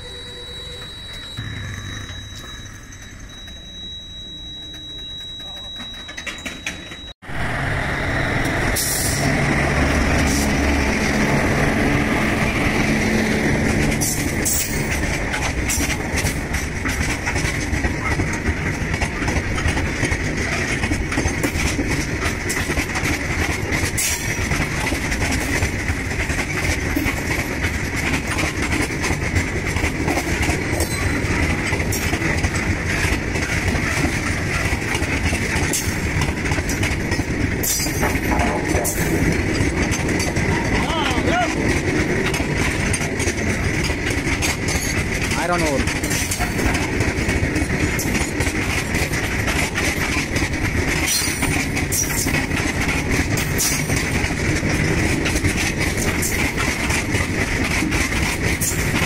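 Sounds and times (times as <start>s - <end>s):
train wheels rumbling on rail: 0.0s - 59.0s
wheels clicking over rail joints: 2.0s - 7.1s, 8.4s - 59.0s.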